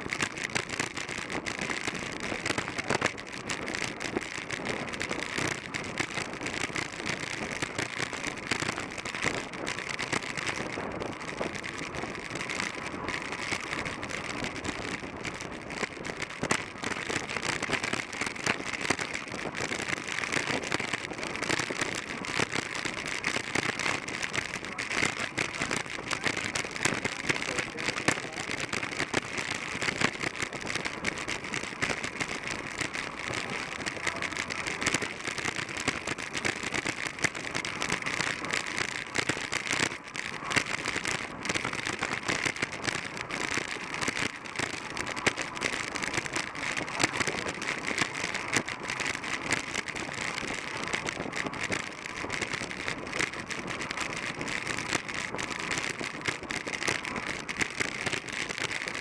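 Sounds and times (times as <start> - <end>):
bicycle tyres rolling on concrete: 0.0 - 59.0
fine crackling rattle: 0.0 - 59.0.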